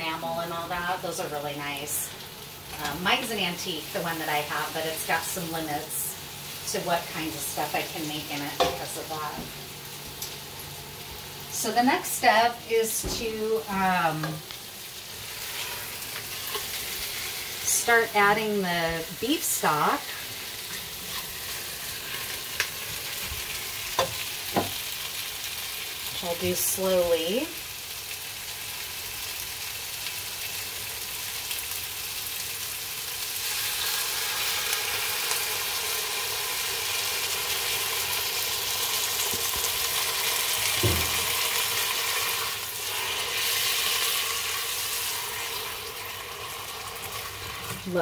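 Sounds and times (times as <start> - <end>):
beef and onions sizzling: 0.0 - 48.0.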